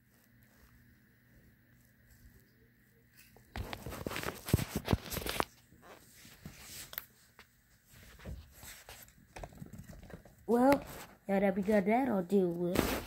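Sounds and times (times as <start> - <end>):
toy cars rustling over carpet: 0.0 - 13.0.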